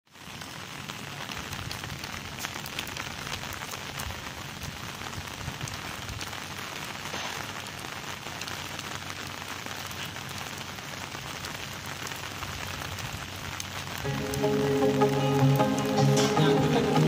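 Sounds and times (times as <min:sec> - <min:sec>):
heavy rain falling: 0:00.1 - 0:17.0
raindrops ticking nearby: 0:00.1 - 0:17.0.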